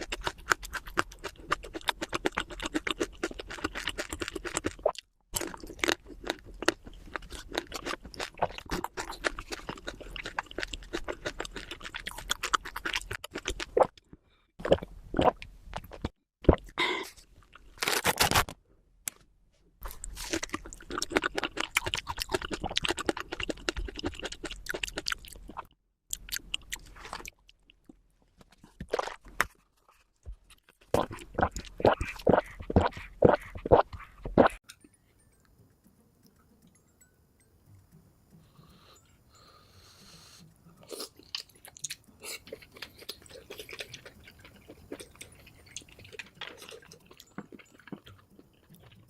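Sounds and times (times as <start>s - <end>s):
chewing and crunching food: 0.0s - 18.5s, 19.8s - 37.0s, 40.2s - 49.0s.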